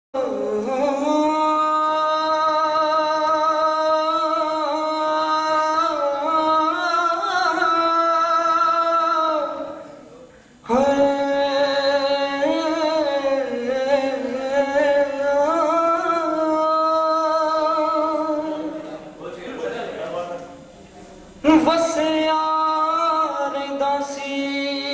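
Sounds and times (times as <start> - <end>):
man singing unaccompanied: 0.1 - 19.0, 21.4 - 24.9.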